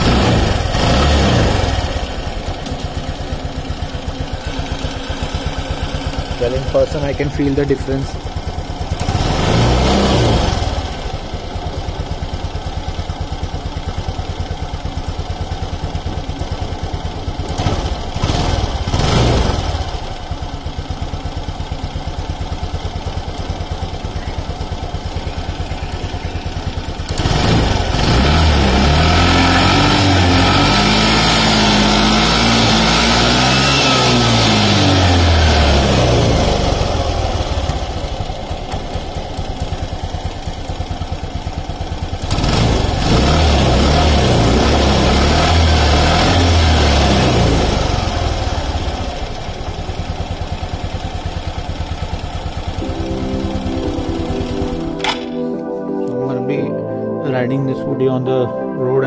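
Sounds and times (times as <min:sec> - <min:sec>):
scooter engine idling and revving: 0:00.0 - 0:55.4.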